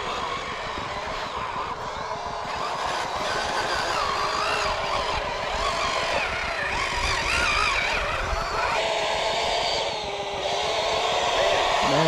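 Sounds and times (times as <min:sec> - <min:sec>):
model vehicle motors whining: 0:00.0 - 0:12.0.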